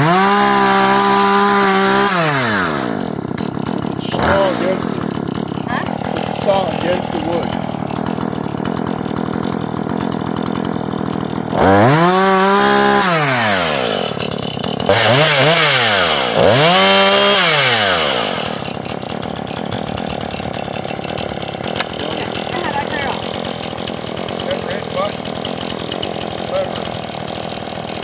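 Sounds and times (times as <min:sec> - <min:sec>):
chainsaw idling and revving: 0:00.0 - 0:28.0.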